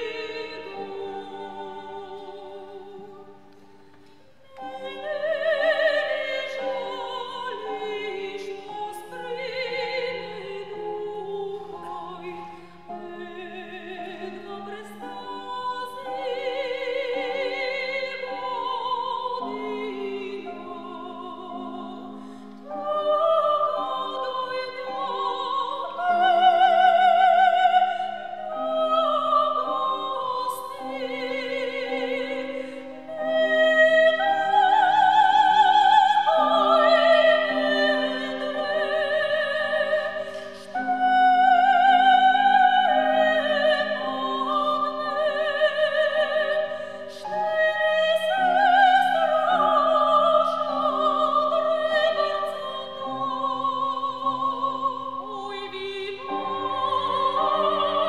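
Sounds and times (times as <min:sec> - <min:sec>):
women singing operatic song: 0:00.0 - 0:03.6, 0:04.4 - 0:58.0
cello: 0:00.0 - 0:58.0
piano: 0:00.0 - 0:58.0.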